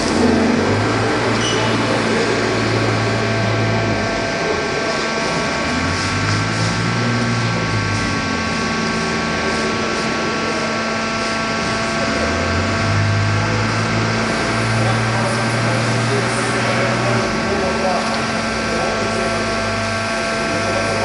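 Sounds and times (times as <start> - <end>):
deep hum: 0.0 - 21.0
machinery whining: 0.0 - 21.0.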